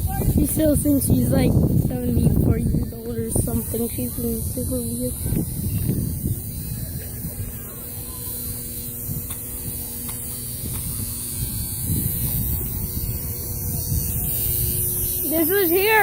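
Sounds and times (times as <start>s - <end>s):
faint steady hum: 0.0s - 16.0s
low rumbling: 0.0s - 16.0s.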